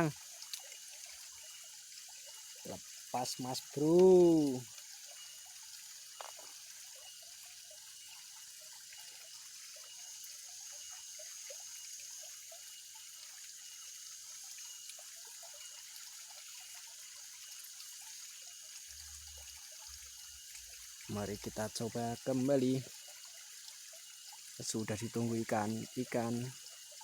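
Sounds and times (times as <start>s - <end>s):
small water plinks: 0.0s - 27.0s
water trickling and dripping: 0.0s - 27.0s.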